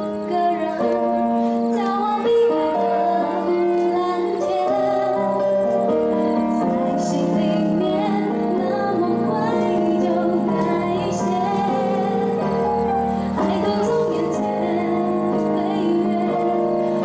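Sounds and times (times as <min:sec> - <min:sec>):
keyboard and backing track: 0:00.0 - 0:17.0
woman singing pop song: 0:00.0 - 0:17.0.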